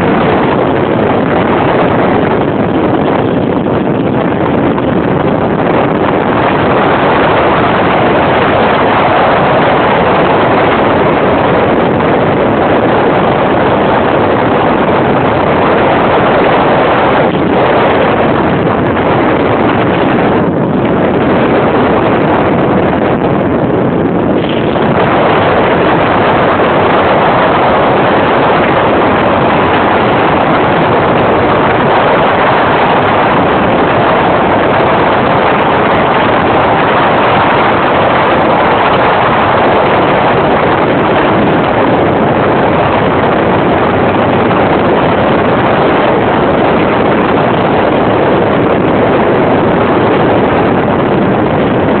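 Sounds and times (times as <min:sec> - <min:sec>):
jet boat engine: 0:00.0 - 0:52.0
water rushing past hull: 0:00.0 - 0:52.0.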